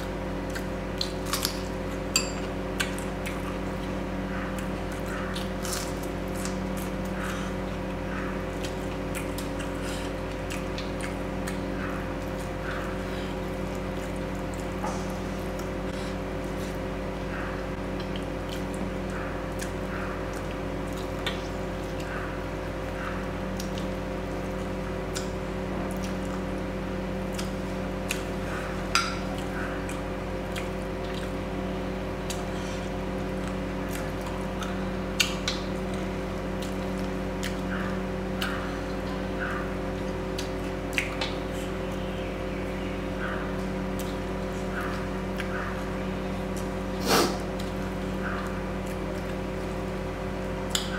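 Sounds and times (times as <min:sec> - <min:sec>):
steady hum: 0:00.0 - 0:50.9
wet chewing: 0:00.4 - 0:17.0, 0:17.7 - 0:26.6, 0:27.2 - 0:31.5, 0:32.1 - 0:42.8, 0:43.4 - 0:50.9.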